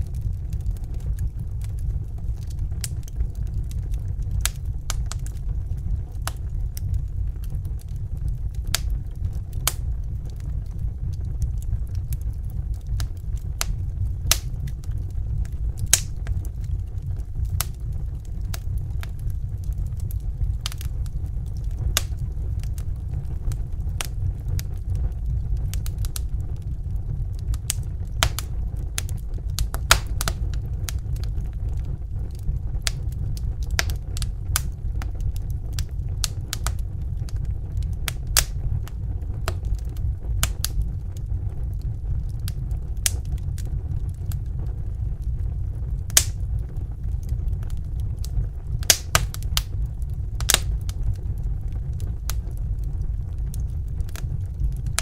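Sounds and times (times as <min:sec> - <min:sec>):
fire low rumble: 0:00.0 - 0:55.0
wood fire crackling and popping: 0:00.0 - 0:55.0.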